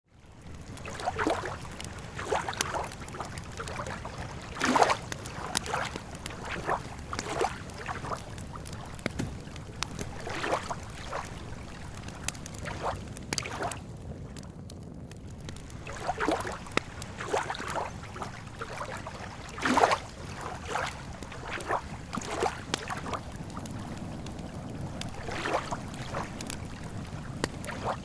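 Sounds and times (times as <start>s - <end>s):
campfire crackling: 0.1s - 28.0s
lake water lapping at shore: 0.2s - 14.4s, 15.4s - 28.0s.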